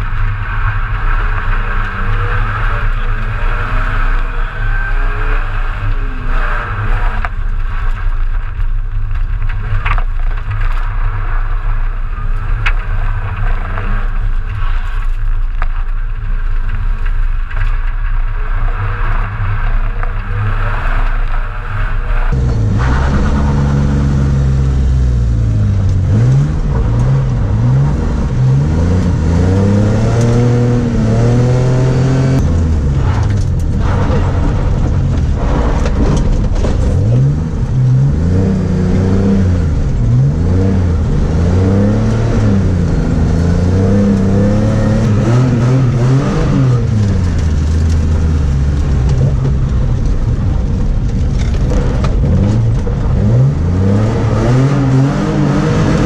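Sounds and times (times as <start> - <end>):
racing car engine revving: 0.0 - 8.6, 17.7 - 56.0.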